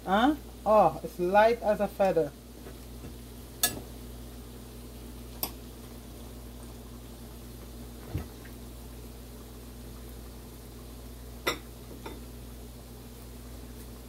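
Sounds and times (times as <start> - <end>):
dough sizzling in hot oil: 0.0 - 14.0.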